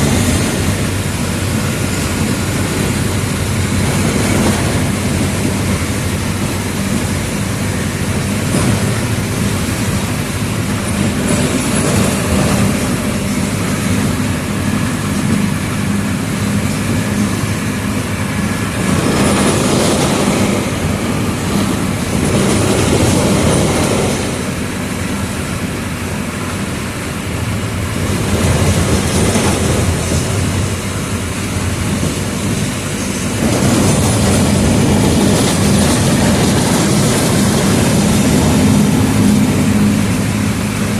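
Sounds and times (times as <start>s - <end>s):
bus body rattling: 0.0s - 40.9s
bus engine droning: 0.0s - 40.9s.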